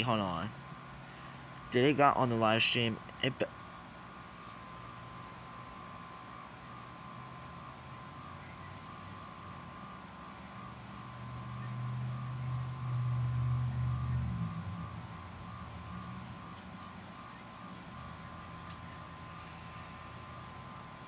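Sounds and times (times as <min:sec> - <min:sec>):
faint pulsing high tone: 0:00.0 - 0:21.0
low hum: 0:02.9 - 0:21.0.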